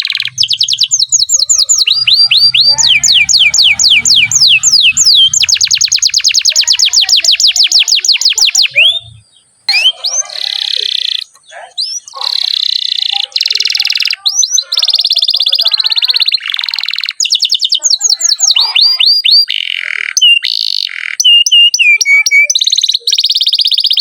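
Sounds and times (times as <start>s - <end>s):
canary singing: 0.0s - 24.0s.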